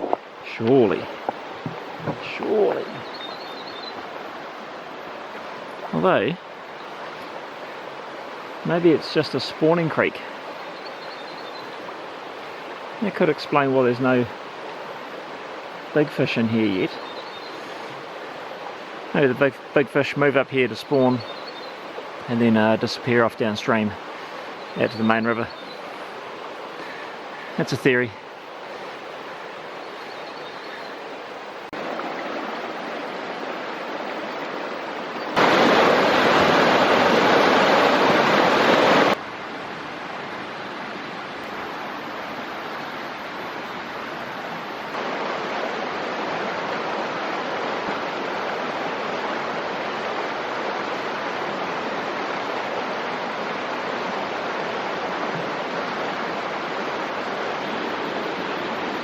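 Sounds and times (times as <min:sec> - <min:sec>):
rushing stream water: 0:00.0 - 0:59.0.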